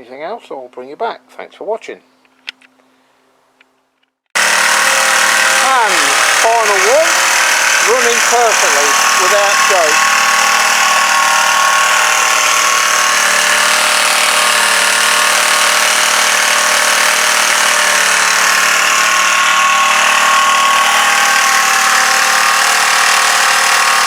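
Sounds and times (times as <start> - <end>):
small petrol engine running: 4.4 - 24.0.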